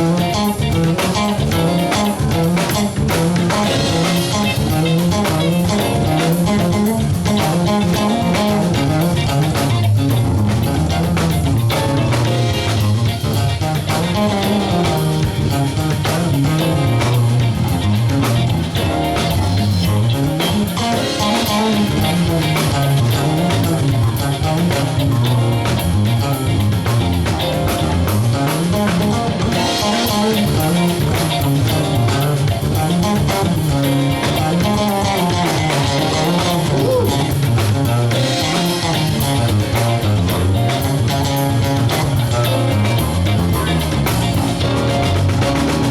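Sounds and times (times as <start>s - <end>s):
drum kit beat: 0.0s - 45.9s
electric guitar: 0.0s - 45.9s
walking bass line: 0.0s - 45.9s.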